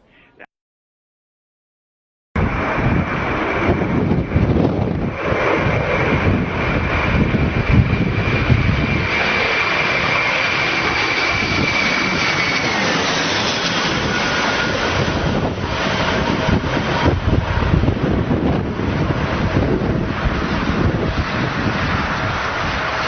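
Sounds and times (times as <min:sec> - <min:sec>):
airplane engines roaring with whine: 0:02.4 - 0:23.0.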